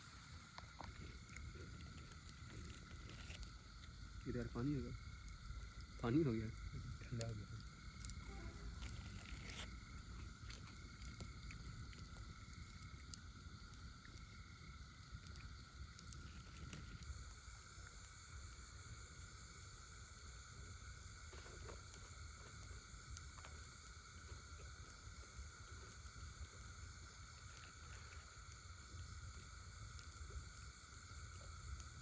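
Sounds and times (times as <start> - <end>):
campfire wood crackling: 0.0 - 32.0
steady high hum: 0.0 - 32.0.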